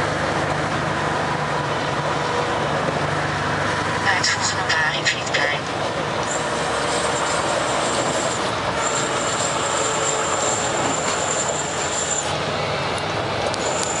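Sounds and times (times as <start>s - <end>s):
heavy truck road noise: 0.0s - 14.0s.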